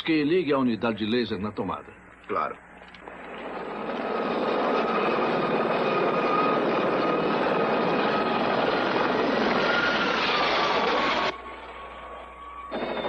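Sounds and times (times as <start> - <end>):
high whine: 0.0 - 13.0
helicopter engine and rotor noise: 1.8 - 13.0.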